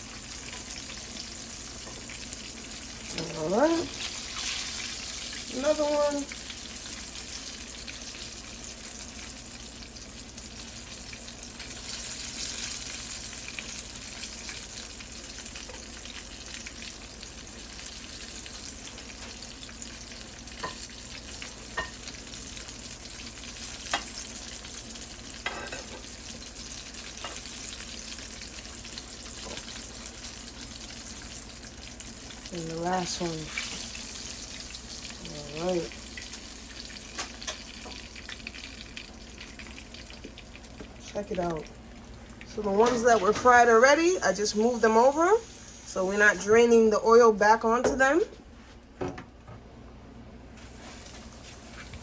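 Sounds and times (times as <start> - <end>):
fish frying in hot oil: 0.0 - 46.4, 50.6 - 52.0.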